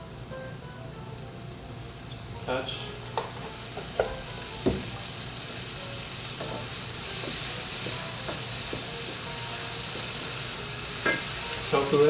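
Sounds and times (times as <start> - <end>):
hot pan sizzling: 0.0 - 12.0.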